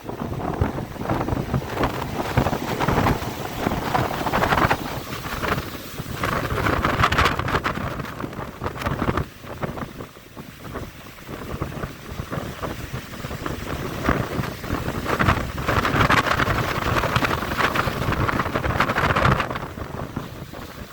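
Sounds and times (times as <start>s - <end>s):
breaking surf: 0.0s - 20.9s
wind buffeting the microphone: 0.0s - 20.9s.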